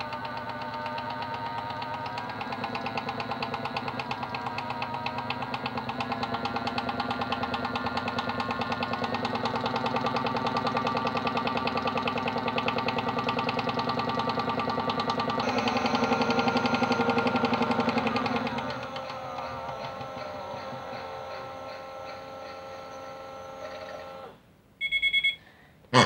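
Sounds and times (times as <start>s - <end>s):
toy washing machine rattling: 0.0s - 24.2s.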